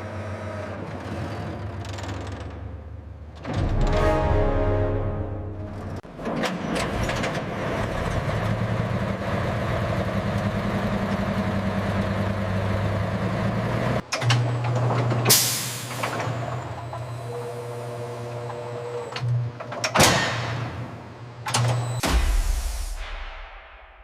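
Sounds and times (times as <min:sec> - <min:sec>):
heavy engine droning: 0:00.0 - 0:19.3.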